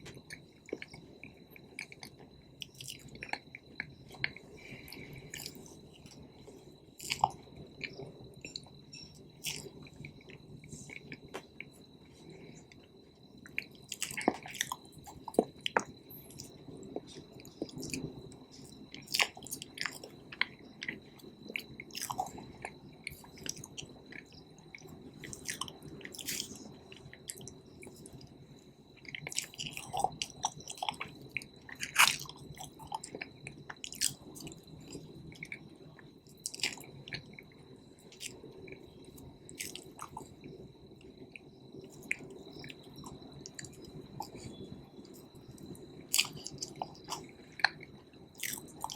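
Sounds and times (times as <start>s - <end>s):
person chewing cake: 0.0s - 48.9s.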